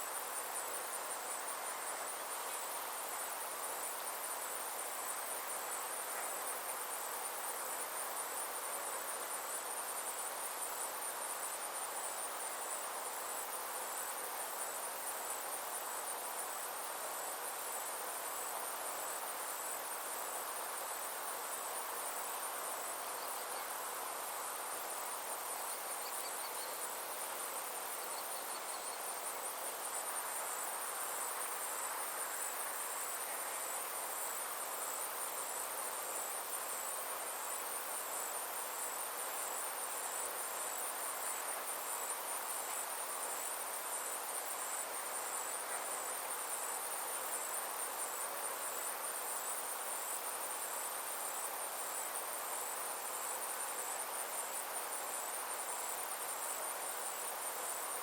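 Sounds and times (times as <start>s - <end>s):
insects trilling: 0.0s - 58.0s
outdoor background noise: 0.0s - 58.0s.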